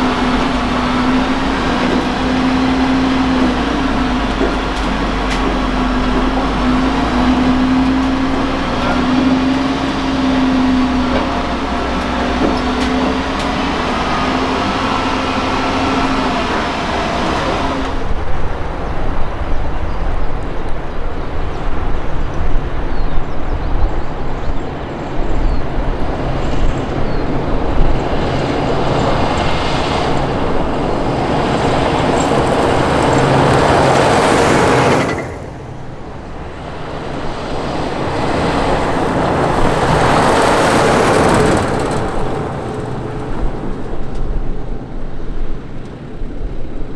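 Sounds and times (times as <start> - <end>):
truck engine hum: 0.0 - 46.9
truck rumbling road noise: 0.0 - 46.9.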